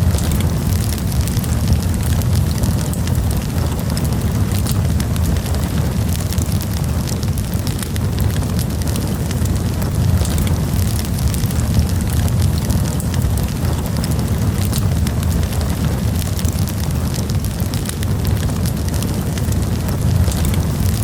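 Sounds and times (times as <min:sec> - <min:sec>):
fire flame rumble: 0:00.0 - 0:21.0
wood crackling and popping: 0:00.0 - 0:21.0.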